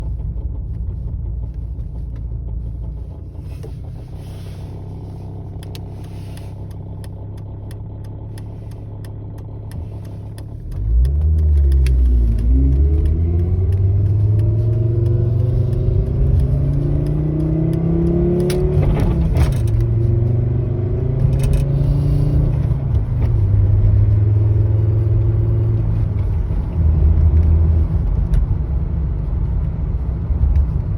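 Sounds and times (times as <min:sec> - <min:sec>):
engine rumbling and revving: 0:00.0 - 0:30.9.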